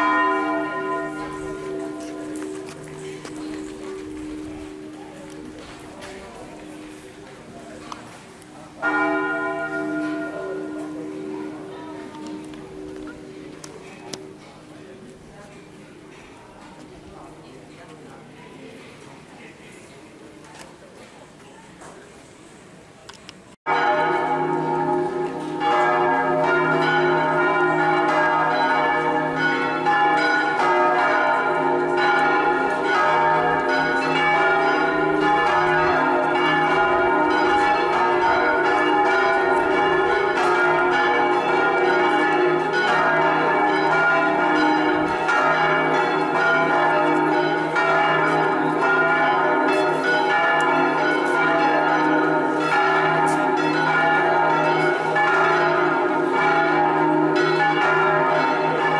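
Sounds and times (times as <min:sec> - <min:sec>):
swinging church bells pealing: 0:00.0 - 0:18.2, 0:23.7 - 0:58.9.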